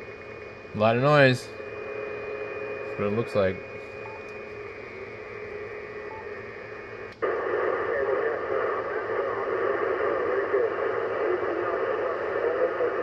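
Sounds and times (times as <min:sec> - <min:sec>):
faint steady tones: 0:00.0 - 0:13.0
radio static hiss: 0:00.0 - 0:13.0.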